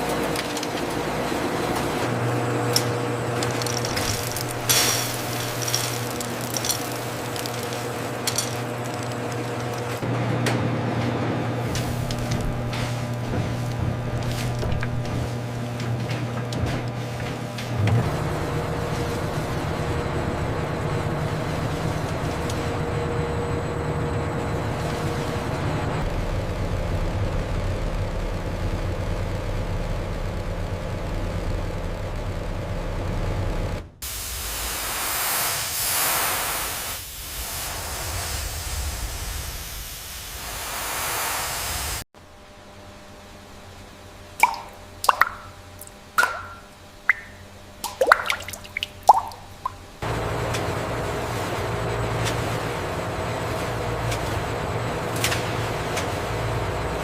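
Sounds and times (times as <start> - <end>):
machinery humming: 0.0 - 34.7, 37.0 - 57.0.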